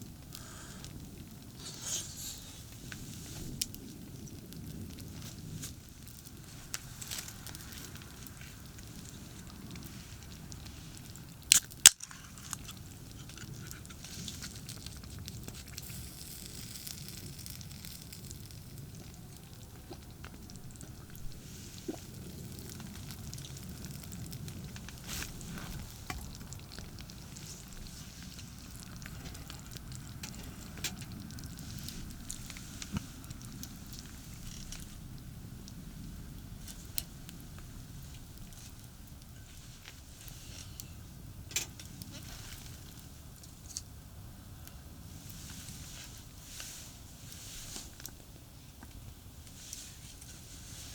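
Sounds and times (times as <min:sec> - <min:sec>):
campfire crackling and popping: 0:00.0 - 0:50.9
sharp loud fire snaps: 0:00.0 - 0:50.9.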